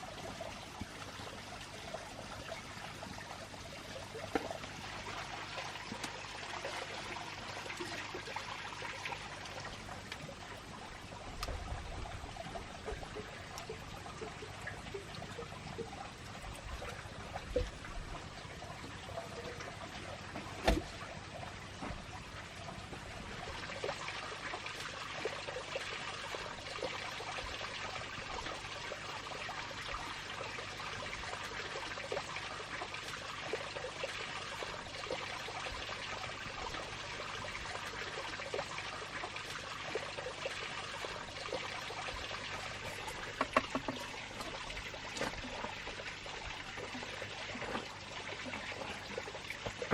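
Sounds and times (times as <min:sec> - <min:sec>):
water trickling and splashing: 0:00.0 - 0:49.9.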